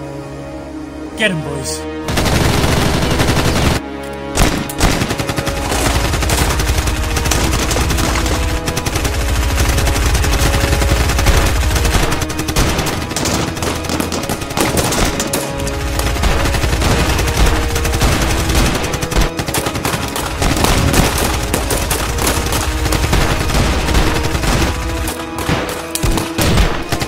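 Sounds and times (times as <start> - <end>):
background music: 0.0 - 27.0
automatic gunfire: 2.1 - 3.8, 4.4 - 27.0.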